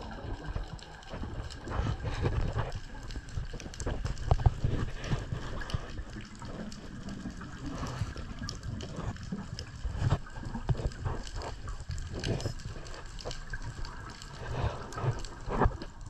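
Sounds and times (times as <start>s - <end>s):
faint underwater clicks: 0.0s - 16.0s
muffled underwater rumble: 0.0s - 16.0s.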